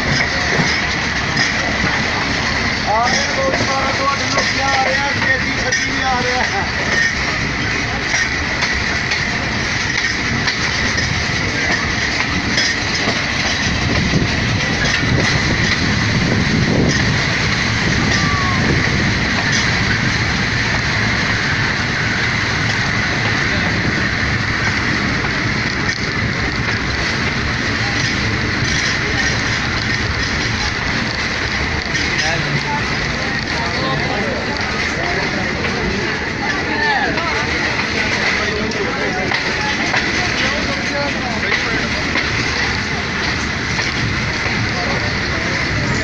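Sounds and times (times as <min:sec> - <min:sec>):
train rumbling on track: 0:00.0 - 0:46.0
wheels clicking over rails: 0:00.0 - 0:46.0.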